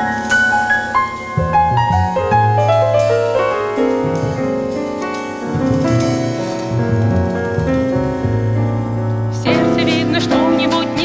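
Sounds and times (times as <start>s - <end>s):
jazz piano playing: 0.0s - 11.0s
walking double bass: 0.0s - 11.0s.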